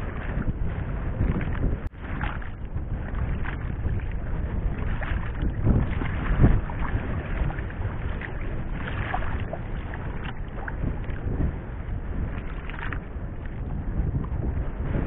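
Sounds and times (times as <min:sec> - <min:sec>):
water sloshing against boat hull: 0:00.0 - 0:11.5, 0:12.1 - 0:15.0
wind rumbling on microphone: 0:00.0 - 0:15.0.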